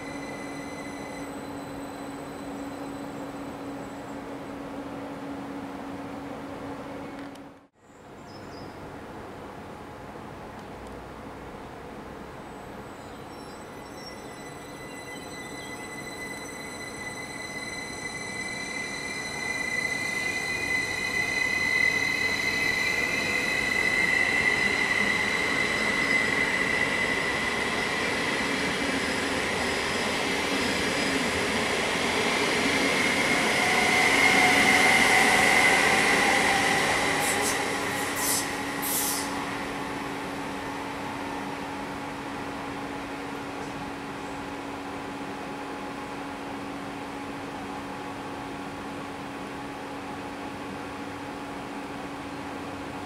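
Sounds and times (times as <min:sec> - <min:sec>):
electric train traction whine: 0:00.0 - 0:07.7, 0:13.3 - 0:53.0.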